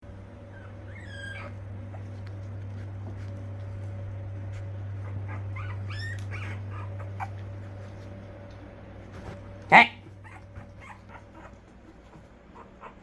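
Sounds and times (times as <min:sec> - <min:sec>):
steady low hum: 0:00.0 - 0:13.0
puppies whimpering: 0:00.1 - 0:13.0.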